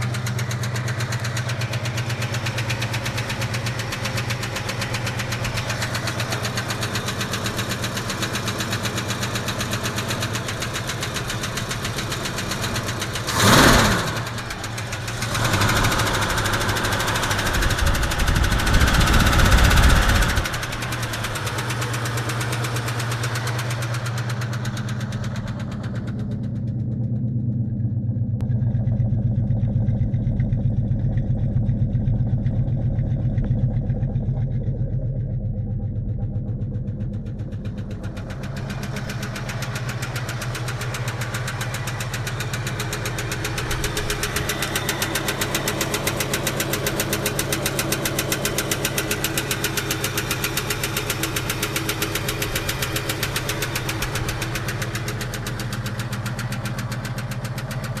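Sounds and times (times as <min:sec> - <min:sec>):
engine idling: 0:00.0 - 0:58.0
rapid engine tapping knock: 0:00.0 - 0:58.0.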